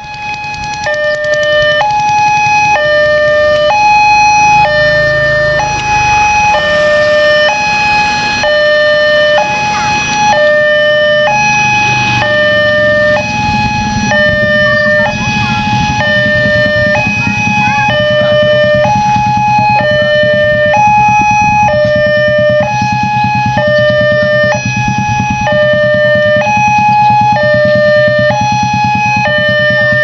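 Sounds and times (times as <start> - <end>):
motorcycle and car engines: 0.0 - 30.0
two-tone crossing warning alarm: 0.0 - 30.0.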